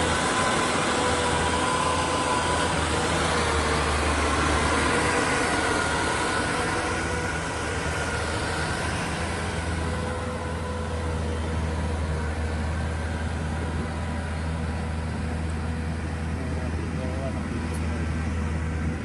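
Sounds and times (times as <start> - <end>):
combine harvester engine humming: 0.0 - 19.0
machinery noise: 0.0 - 19.0.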